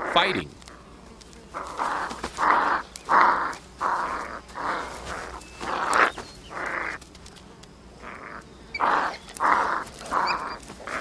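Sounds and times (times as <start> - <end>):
coyote pups growling: 0.0 - 11.0.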